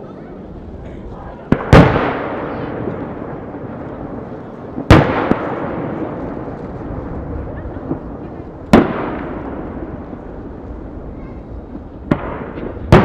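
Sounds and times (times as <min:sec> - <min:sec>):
firework crack: 0:00.0 - 0:13.0
firework booms with rumble: 0:01.5 - 0:13.0.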